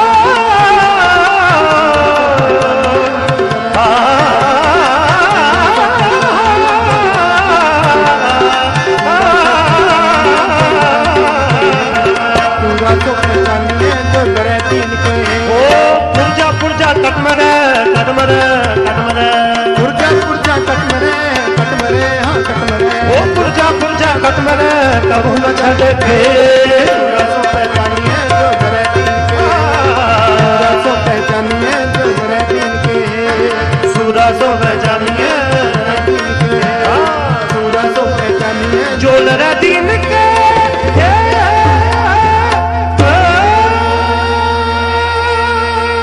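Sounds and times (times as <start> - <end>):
harmonium melody: 0.0 - 46.0
tabla playing: 0.0 - 46.0.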